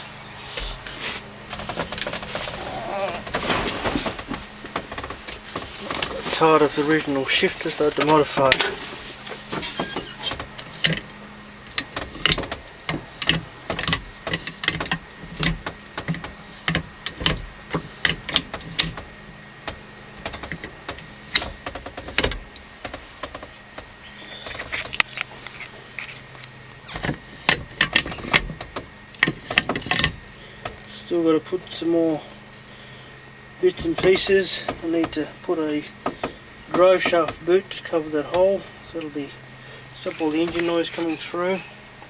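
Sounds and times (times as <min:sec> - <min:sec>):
steady low hum: 0:00.0 - 0:42.0
gear shifter clicks and clunks: 0:00.3 - 0:32.2, 0:33.6 - 0:42.0.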